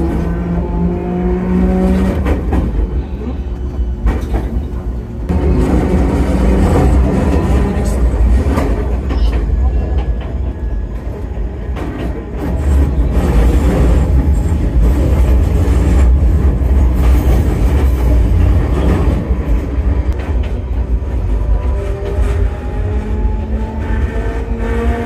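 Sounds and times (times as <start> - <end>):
train wheels and motors rumbling: 0.0 - 25.0.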